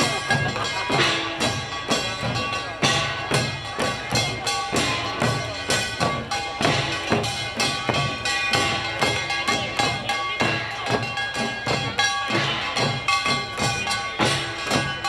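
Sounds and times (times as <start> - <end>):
drums in fast rhythm: 0.0 - 15.0.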